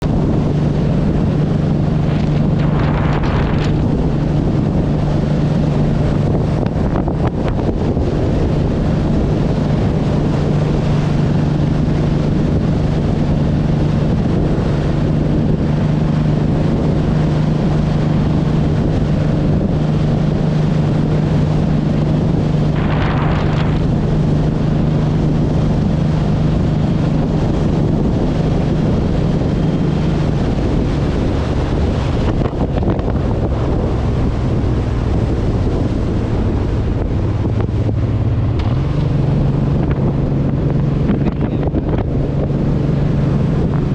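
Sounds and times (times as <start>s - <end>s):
motorcycle engine running: 0.0s - 43.9s
wind buffeting microphone: 0.0s - 43.9s.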